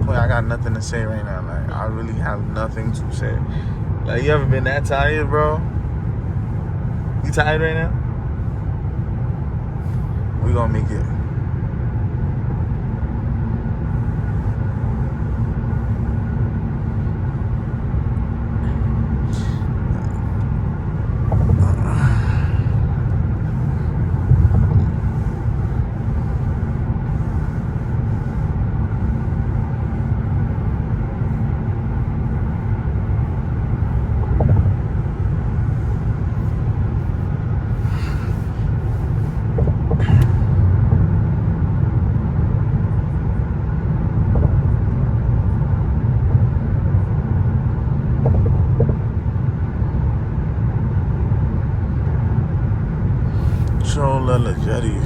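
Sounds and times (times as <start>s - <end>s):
car cabin road rumble: 0.0s - 55.0s
constant faint hum: 0.0s - 55.0s.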